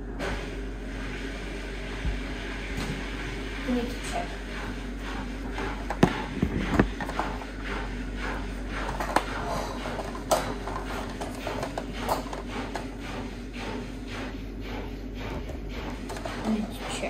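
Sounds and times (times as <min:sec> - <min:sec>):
washing machine hum: 0:00.0 - 0:17.0.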